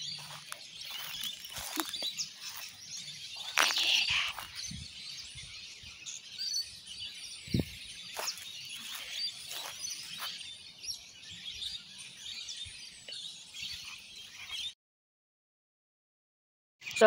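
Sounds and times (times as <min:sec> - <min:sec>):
wild birds chirping and calling: 0:00.0 - 0:14.8.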